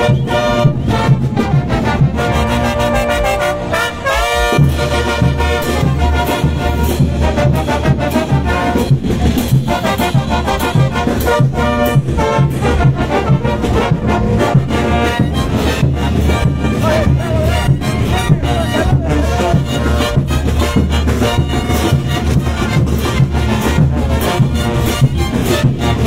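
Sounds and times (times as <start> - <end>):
rising brass run: 0.0 - 26.0
steady low drum beat: 0.0 - 26.0
trumpets and trombones: 0.0 - 26.0.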